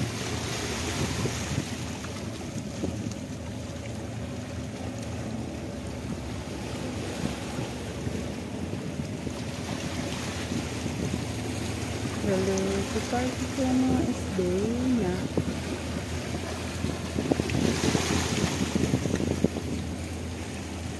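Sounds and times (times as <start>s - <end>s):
low steady ship engine drone: 0.0s - 20.9s
wind buffeting microphone: 0.0s - 20.9s.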